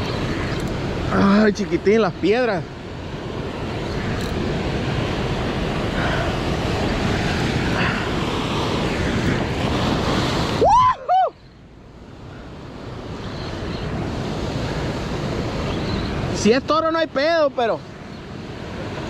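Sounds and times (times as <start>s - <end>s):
wind buffeting microphone: 0.0s - 16.4s
surf washing on beach: 0.0s - 19.0s.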